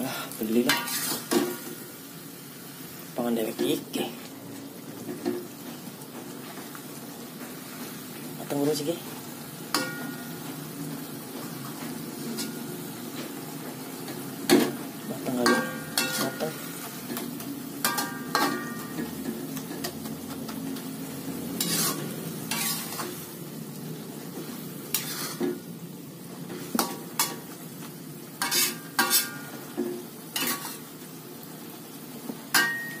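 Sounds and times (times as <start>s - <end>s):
spatula scraping and clanking wok: 0.0s - 2.8s, 4.7s - 31.2s, 32.2s - 33.0s
vegetables sizzling in a wok: 0.0s - 33.0s.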